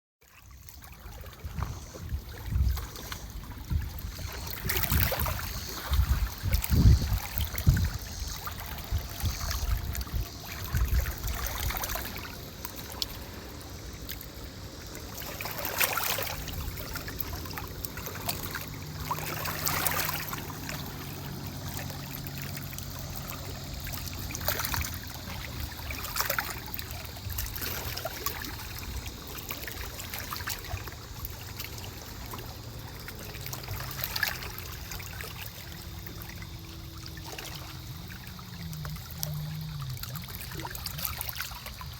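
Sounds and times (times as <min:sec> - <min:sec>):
shallow water lapping and splashing: 0:00.2 - 0:41.9.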